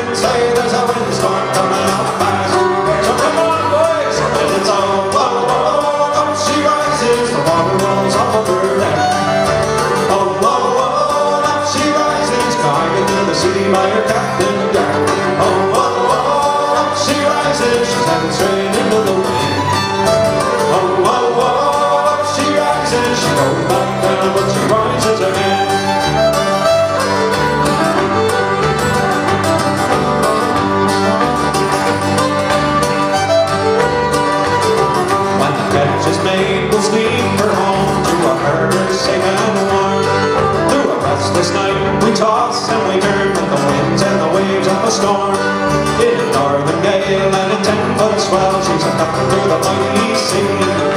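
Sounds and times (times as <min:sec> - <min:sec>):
electric bass: 0:00.0 - 0:50.9
fiddle playing tune: 0:00.0 - 0:50.9
strummed acoustic guitars: 0:00.0 - 0:50.9.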